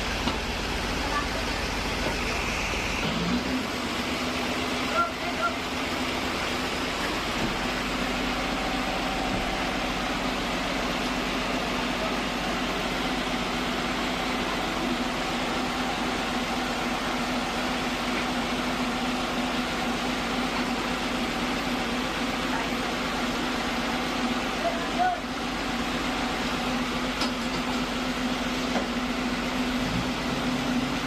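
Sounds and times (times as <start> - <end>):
sawmill machinery humming: 0.0 - 31.0.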